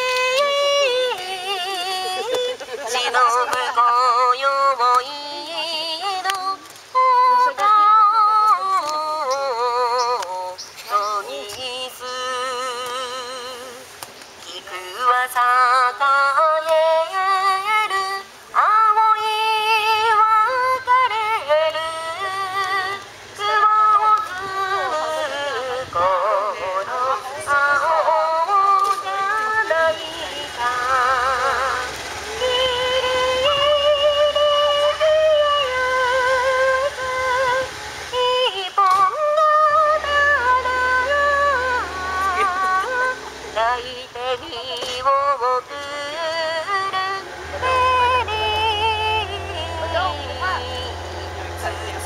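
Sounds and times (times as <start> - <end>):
person singing unaccompanied: 0.0 - 52.0.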